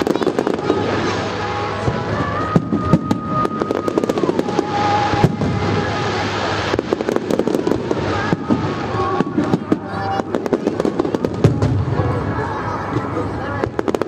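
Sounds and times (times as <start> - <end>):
fireworks cracks and bangs: 0.0 - 14.0
whistling firework tone: 0.0 - 14.0.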